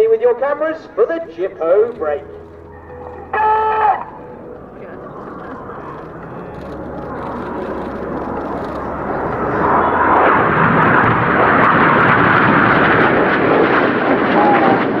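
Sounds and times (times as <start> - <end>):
jets flying past: 0.9 - 15.0.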